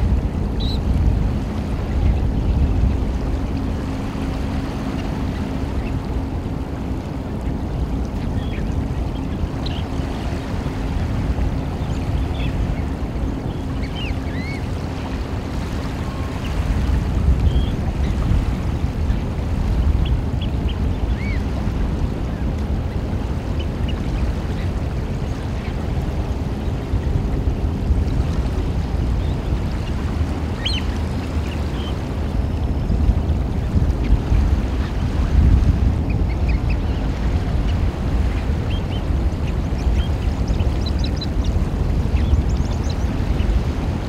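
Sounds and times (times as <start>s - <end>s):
water lapping: 0.0s - 44.0s.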